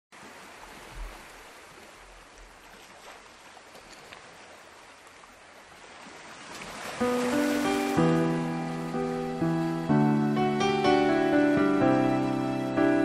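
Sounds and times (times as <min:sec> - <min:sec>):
flowing water rushing: 0:00.1 - 0:13.0.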